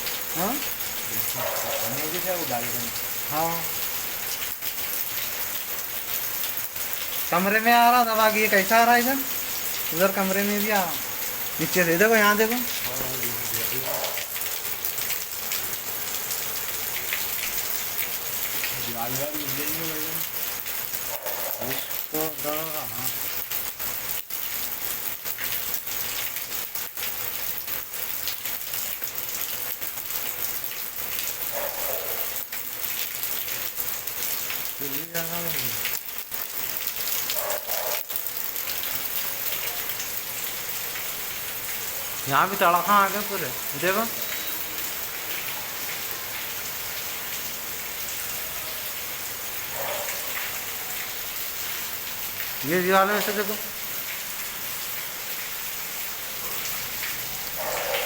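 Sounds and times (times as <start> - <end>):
rain hissing: 0.0 - 58.0
water pouring and splashing: 0.0 - 58.0.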